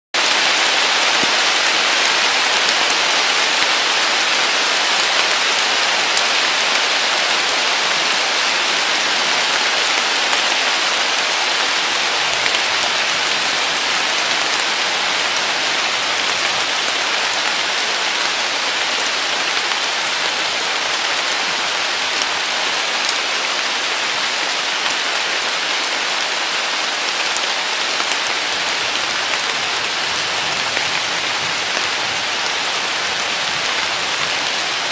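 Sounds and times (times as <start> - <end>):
heavy rain hissing on grass: 0.2 - 34.9.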